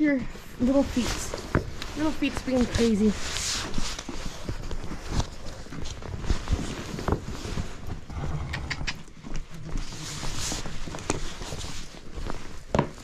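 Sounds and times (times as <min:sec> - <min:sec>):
hooves stamping on dirt: 0:00.1 - 0:13.0.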